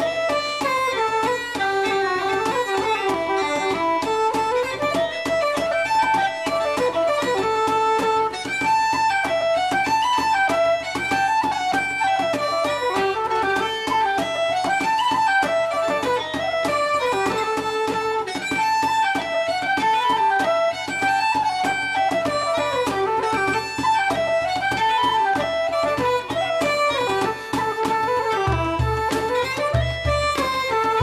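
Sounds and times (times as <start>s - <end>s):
fast traditional folk tune: 0.0s - 31.0s.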